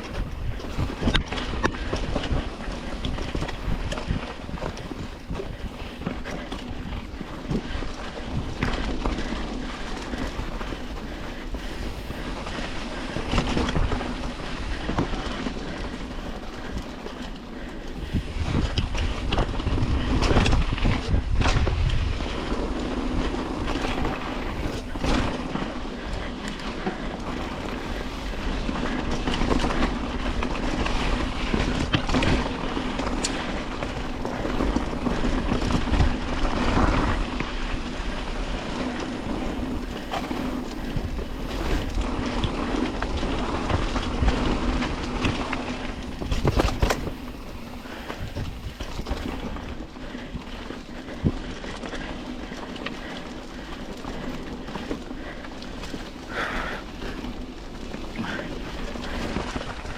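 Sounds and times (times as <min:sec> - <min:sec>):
wheels rattling over rough track: 0:00.0 - 0:59.9.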